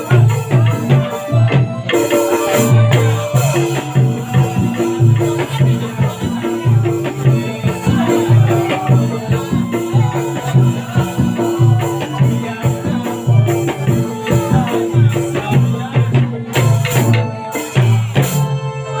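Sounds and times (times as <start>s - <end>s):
music with steady beat: 0.0s - 19.0s.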